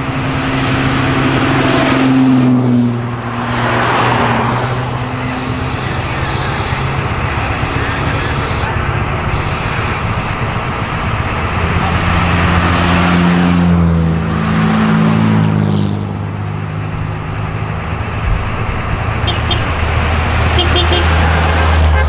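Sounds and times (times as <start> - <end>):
race car engines passing by: 0.0 - 22.0.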